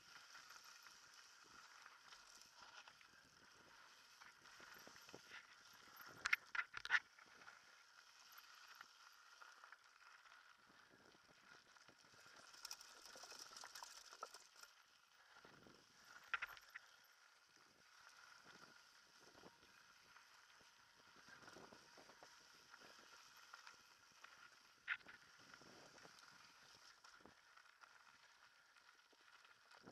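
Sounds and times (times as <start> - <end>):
mountain bike rattling on dirt trail: 0.0 - 10.7, 11.6 - 15.1, 15.8 - 29.5.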